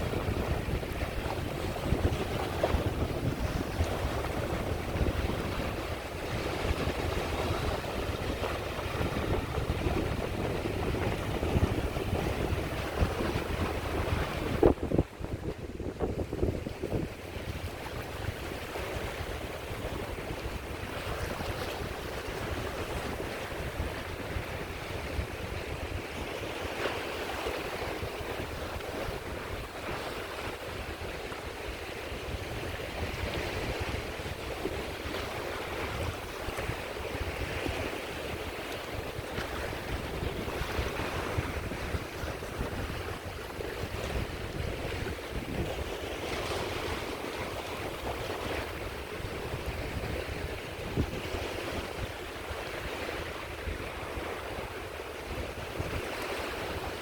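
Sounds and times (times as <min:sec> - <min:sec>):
sea waves washing on shore: 0:00.0 - 0:57.0
wind on microphone: 0:00.0 - 0:57.0.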